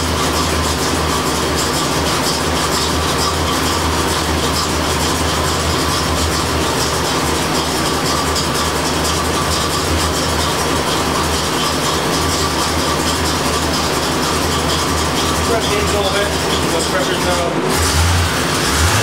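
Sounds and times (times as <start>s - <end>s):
constant whirring tone: 0.0s - 18.7s
car engine idling: 0.0s - 19.0s.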